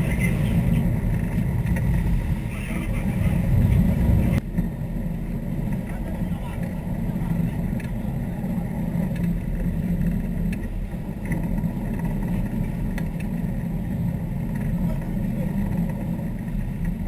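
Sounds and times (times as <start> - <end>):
boat engines droning: 0.0 - 17.0.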